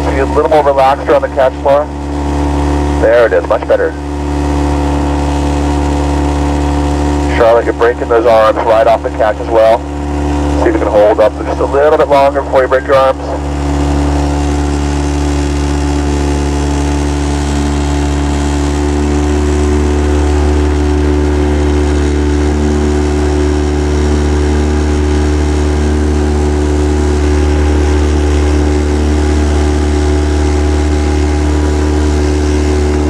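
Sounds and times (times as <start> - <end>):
boat motor running: 0.0 - 33.0.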